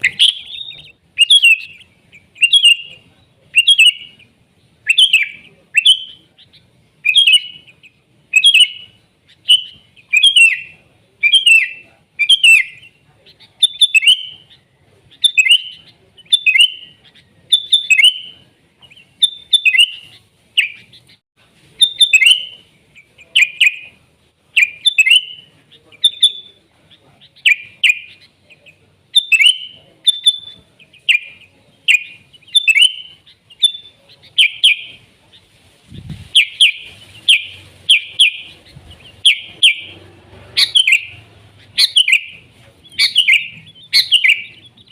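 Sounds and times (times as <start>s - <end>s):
bulbul chirping: 0.0s - 21.2s, 21.8s - 35.1s, 36.4s - 44.9s.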